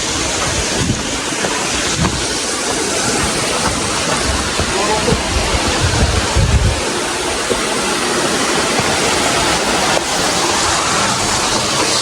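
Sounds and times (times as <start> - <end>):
low rumbling surges: 0.0 - 12.0
steady rushing noise: 0.0 - 12.0.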